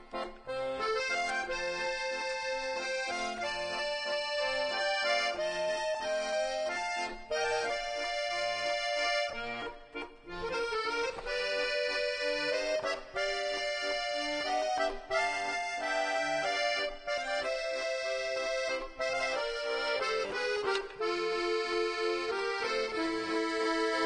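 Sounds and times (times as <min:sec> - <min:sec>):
instrumental music with held chords: 0:00.0 - 0:24.0.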